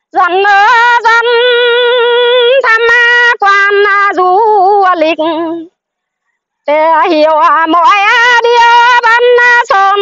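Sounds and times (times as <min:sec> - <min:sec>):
woman singing unaccompanied: 0:00.0 - 0:05.8, 0:06.6 - 0:10.0.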